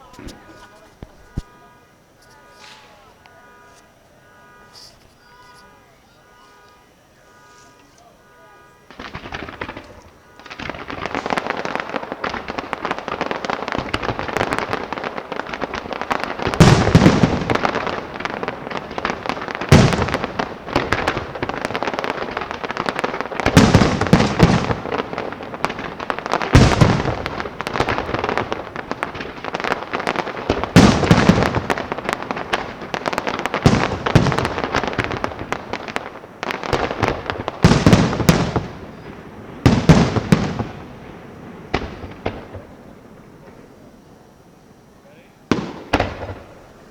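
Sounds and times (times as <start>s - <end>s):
heavy firework booms: 0.0s - 1.8s, 8.7s - 44.3s, 45.4s - 46.9s
fireworks crackling: 0.0s - 46.9s.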